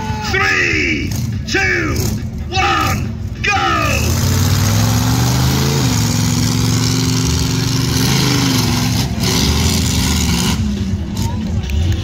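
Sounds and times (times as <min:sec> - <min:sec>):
monster truck engine revving: 0:00.7 - 0:12.0.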